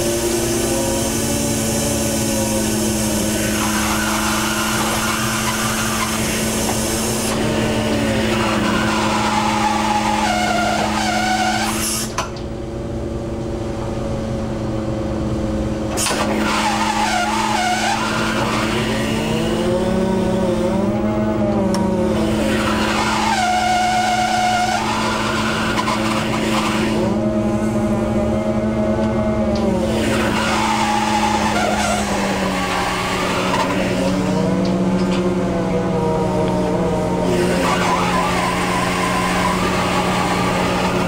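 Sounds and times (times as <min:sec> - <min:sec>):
line hauler squealing: 0:00.0 - 0:12.4, 0:14.0 - 0:41.0
boat engine drone: 0:00.0 - 0:41.0.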